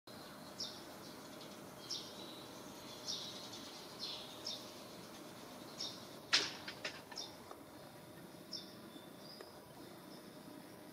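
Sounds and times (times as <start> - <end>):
small bird chirping: 0.1 - 6.2, 7.0 - 10.9.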